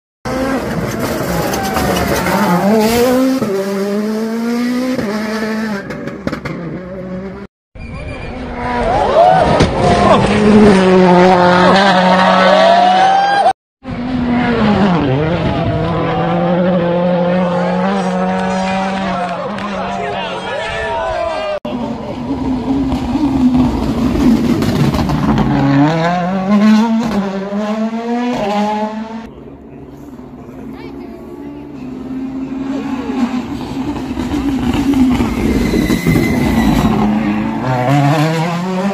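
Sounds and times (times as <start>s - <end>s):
rally car engine accelerating: 0.3s - 7.5s, 8.1s - 20.2s, 21.6s - 30.7s, 31.3s - 38.9s.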